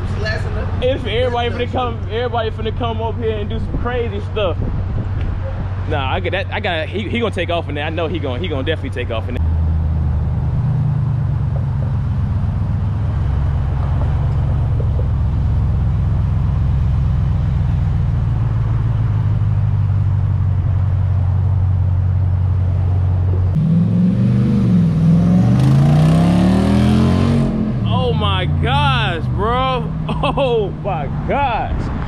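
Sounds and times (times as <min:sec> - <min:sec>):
engine rumbling and revving: 0:00.0 - 0:32.0.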